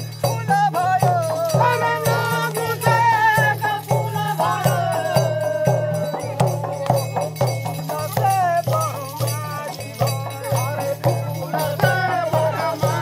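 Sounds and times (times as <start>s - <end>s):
hand drum beaten: 0.0s - 13.0s
man singing wavering notes: 0.0s - 13.0s.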